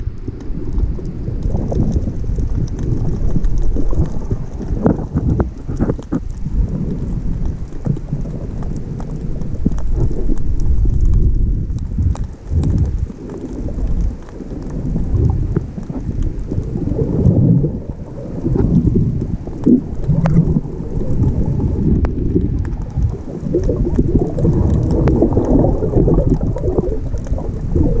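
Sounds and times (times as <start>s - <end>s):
muffled underwater water rumble: 0.0s - 28.0s
faint clicks: 0.1s - 28.0s.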